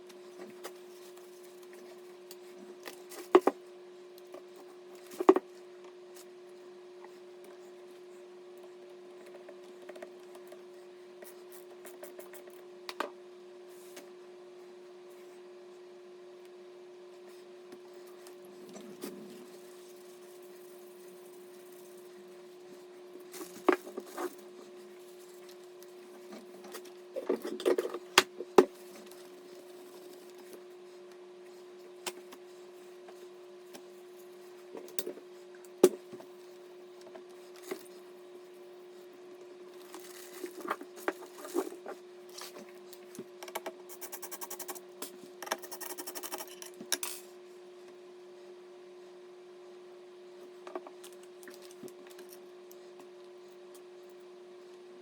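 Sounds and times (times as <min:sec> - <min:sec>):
steady faint hum: 0:00.0 - 0:55.0.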